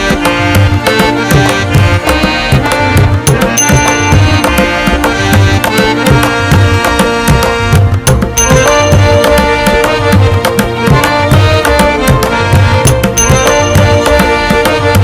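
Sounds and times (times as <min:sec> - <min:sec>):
fast percussion beat: 0:00.0 - 0:15.0
sustained melodic tones: 0:00.0 - 0:15.0.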